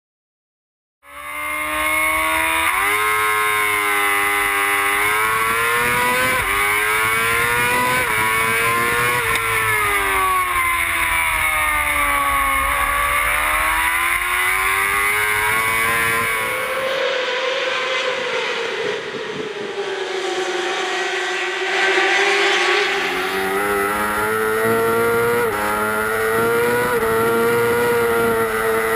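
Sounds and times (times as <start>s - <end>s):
racing motorcycle engine revving: 1.0s - 28.9s.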